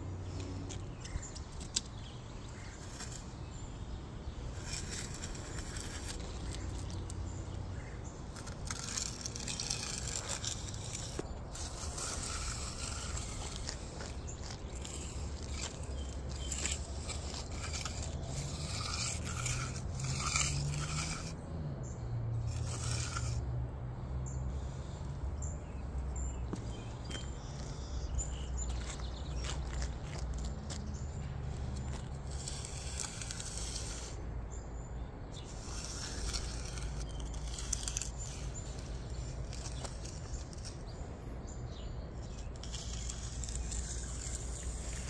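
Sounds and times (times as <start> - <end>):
scraping and rustling: 0.2 - 3.7, 4.4 - 21.4, 22.4 - 23.5, 24.5 - 34.6, 35.4 - 41.2, 42.2 - 45.0.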